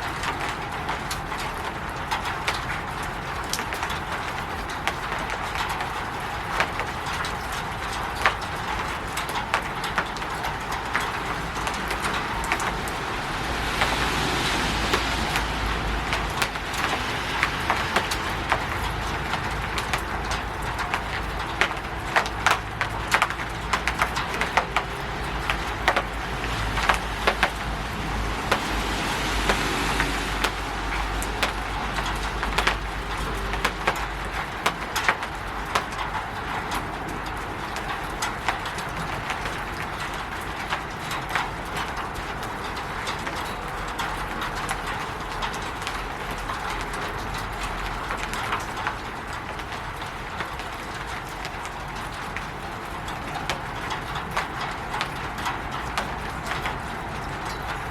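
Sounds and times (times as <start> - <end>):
rain on a roof: 0.0 - 57.9.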